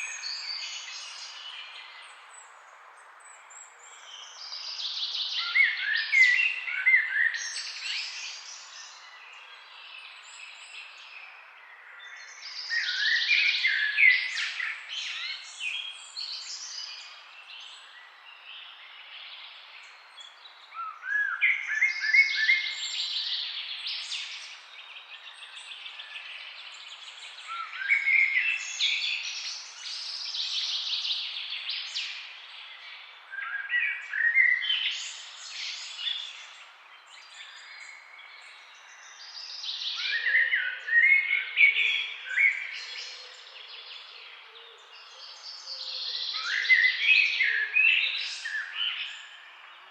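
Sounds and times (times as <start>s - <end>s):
songbirds singing trills: 0.0s - 49.9s.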